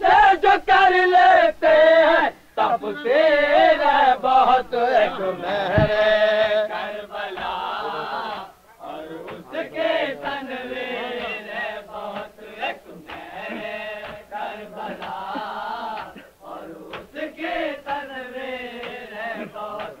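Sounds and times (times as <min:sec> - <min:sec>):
men chanting together: 0:00.0 - 0:20.0.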